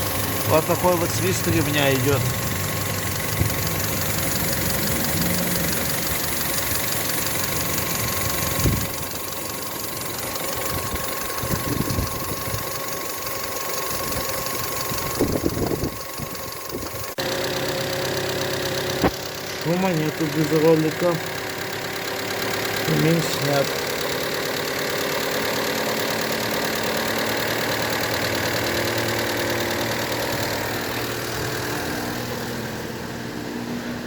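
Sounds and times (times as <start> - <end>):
drive belt whistling: 0.0 - 32.4
car engine idling: 0.0 - 34.0.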